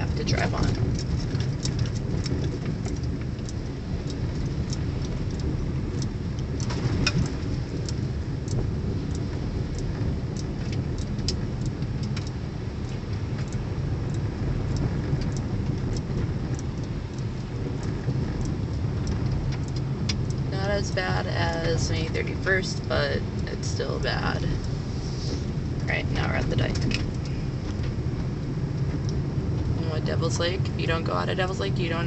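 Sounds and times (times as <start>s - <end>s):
gravel ticks: 0.0s - 32.0s
tyres and engine rumble: 0.0s - 32.0s.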